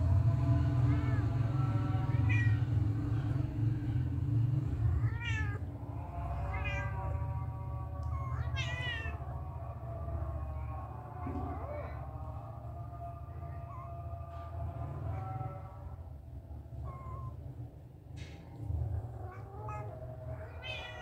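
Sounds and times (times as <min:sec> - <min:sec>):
steady low rumble: 0:00.0 - 0:21.0
kittens mewing: 0:00.6 - 0:17.6, 0:18.2 - 0:21.0.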